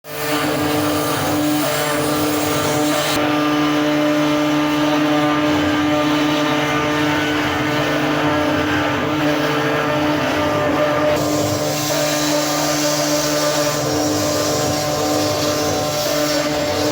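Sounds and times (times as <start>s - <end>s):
router cutting wood: 0.1s - 16.9s
router spindle whine: 0.1s - 16.9s.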